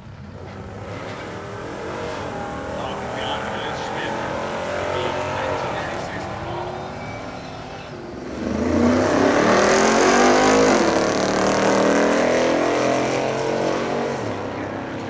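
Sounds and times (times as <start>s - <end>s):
drag racing car engine accelerating: 0.0s - 15.0s.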